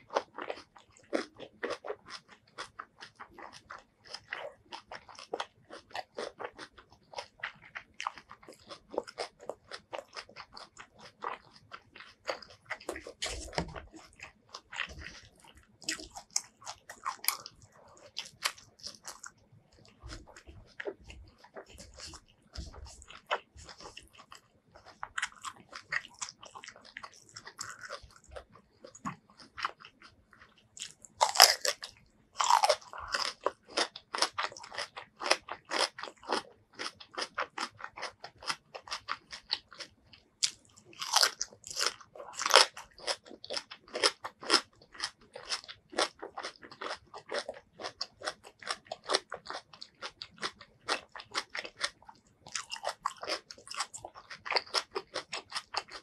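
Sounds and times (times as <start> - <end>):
crunchy biting and chewing: 0.0 - 56.0.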